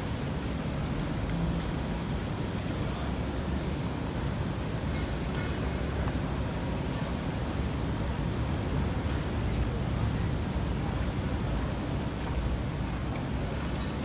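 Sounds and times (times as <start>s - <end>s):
churning water: 0.0s - 14.0s.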